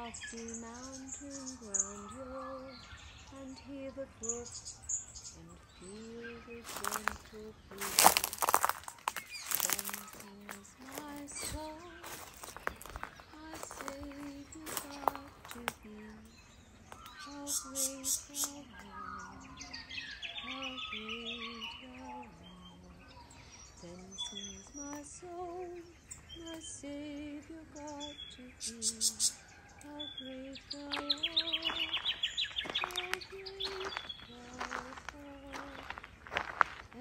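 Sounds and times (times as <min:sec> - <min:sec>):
finches chirping: 0:00.0 - 0:37.0.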